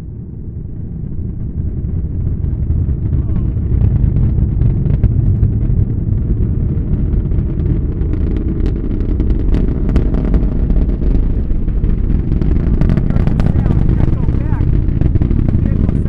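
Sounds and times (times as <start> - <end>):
rocket engine crackles: 0.0 - 16.0
rocket launch rumble: 0.0 - 16.0.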